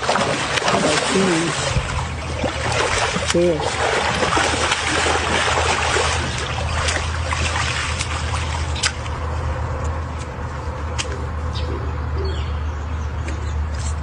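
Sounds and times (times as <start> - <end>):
water trickling and sloshing: 0.0 - 11.8
low hum: 0.0 - 14.0.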